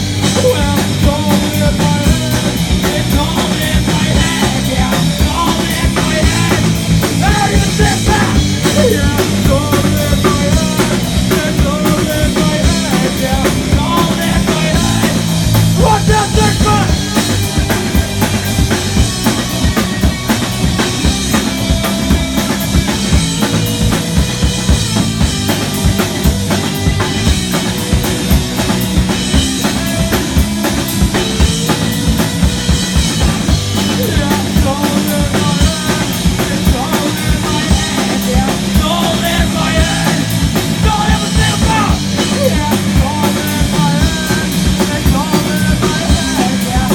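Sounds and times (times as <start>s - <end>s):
drum kit beat: 0.0s - 46.9s
electric guitar lines: 0.0s - 46.9s
rock band playing live: 0.0s - 46.9s.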